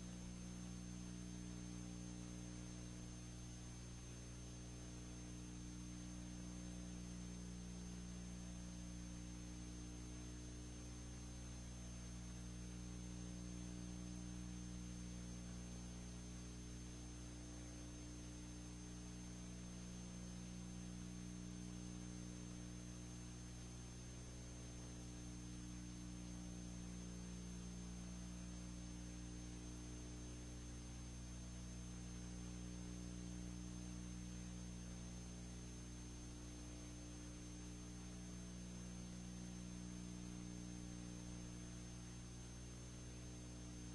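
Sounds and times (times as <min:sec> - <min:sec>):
electrical mains hum: 0:00.0 - 0:43.9.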